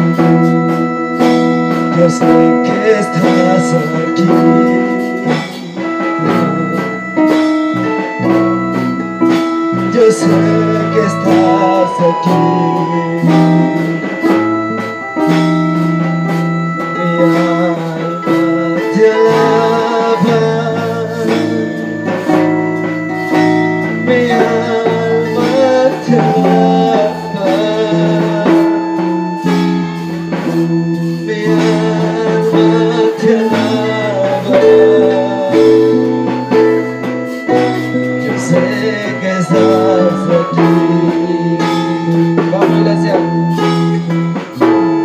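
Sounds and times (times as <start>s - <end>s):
drum kit beat: 0.0s - 45.0s
keyboard: 0.0s - 45.0s
person singing long notes: 0.0s - 45.0s.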